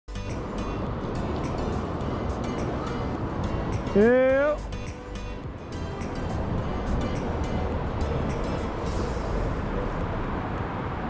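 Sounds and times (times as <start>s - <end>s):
background music: 0.1s - 11.0s
low rumble: 0.2s - 11.0s.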